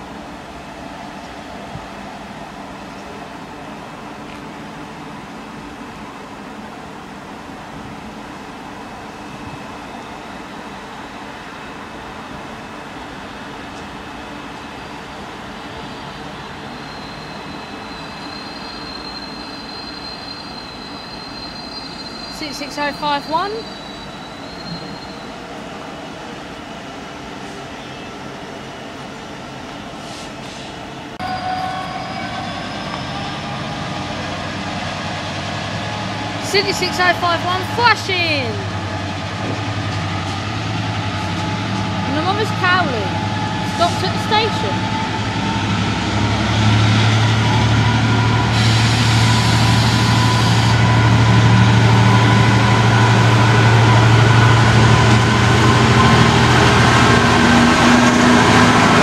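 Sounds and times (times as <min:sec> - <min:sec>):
diesel locomotive engine: 0:00.0 - 0:59.0
mechanical drone of trains: 0:00.0 - 0:59.0.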